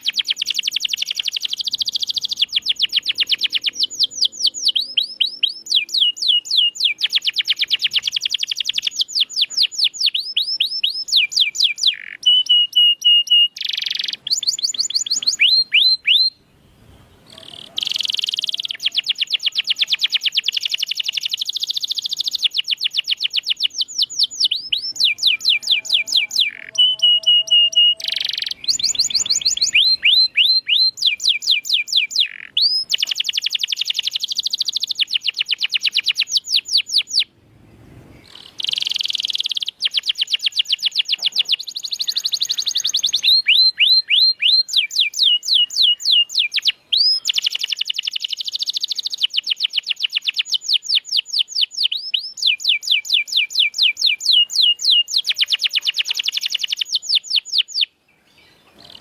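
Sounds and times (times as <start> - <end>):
canary singing trills: 0.0 - 37.4, 38.1 - 59.0.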